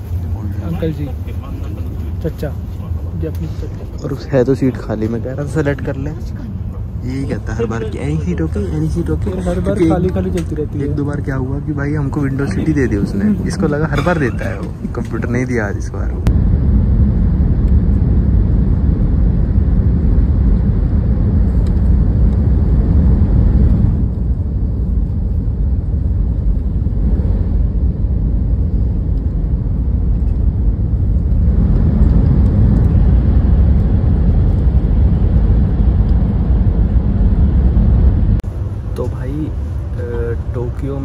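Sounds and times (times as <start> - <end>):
train cabin rumble and rush: 0.0 - 41.0.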